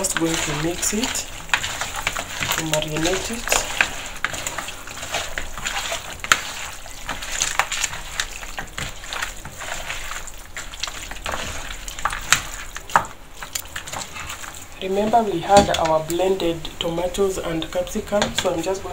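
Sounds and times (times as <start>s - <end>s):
wet squelching and sloshing: 0.0s - 16.2s.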